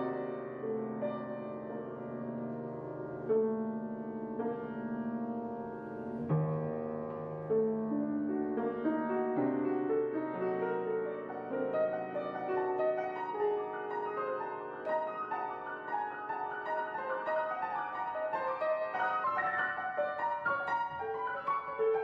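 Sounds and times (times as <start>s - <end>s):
solo piano: 0.0s - 22.0s.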